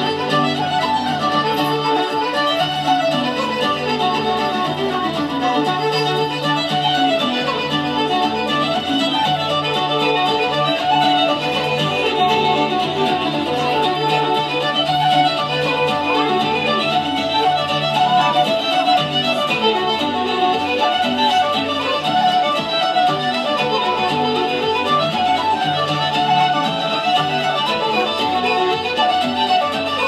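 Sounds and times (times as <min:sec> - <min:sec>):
fiddle playing dance tune: 0:00.0 - 0:30.0.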